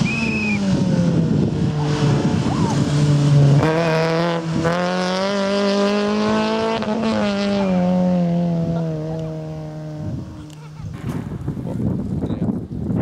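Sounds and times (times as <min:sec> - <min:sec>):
car engine revving past: 0:00.0 - 0:11.5.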